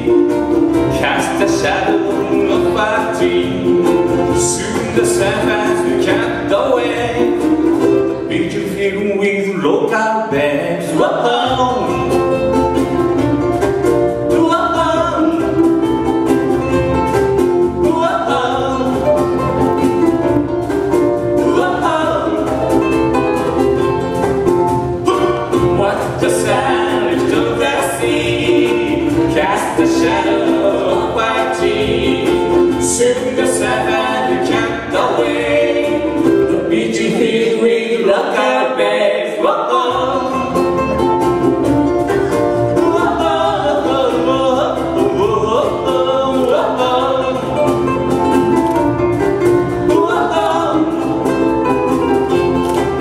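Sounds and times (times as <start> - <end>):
acoustic band playing: 0.0 - 53.0.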